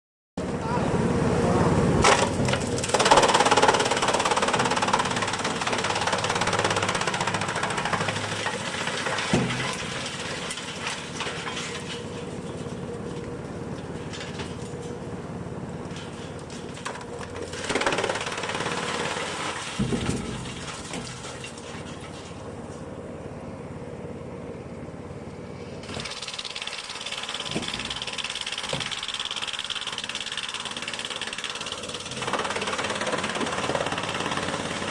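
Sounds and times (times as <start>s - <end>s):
wood chipper running: 0.4s - 34.9s.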